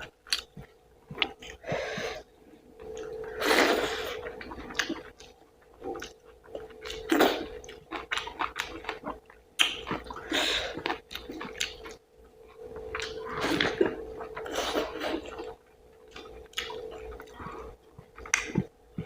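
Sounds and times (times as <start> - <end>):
faint steady hum: 0.0 - 19.0
person chewing food: 0.0 - 19.0.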